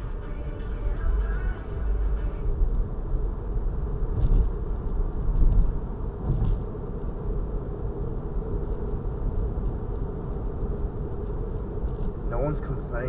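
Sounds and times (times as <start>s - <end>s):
road and tyre rumble in car: 0.0s - 13.0s.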